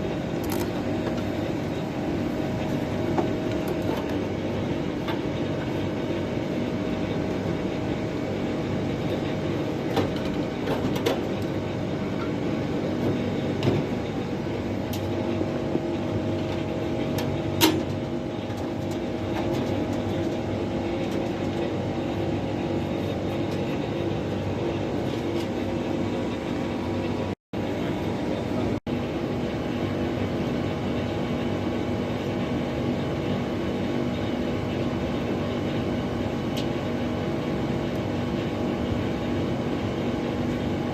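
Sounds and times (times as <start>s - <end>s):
air conditioner hum: 0.0s - 40.9s.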